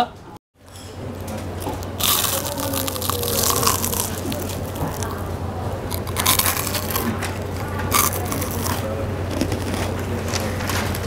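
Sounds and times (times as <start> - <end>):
crunchy food being chewed: 1.1 - 11.0.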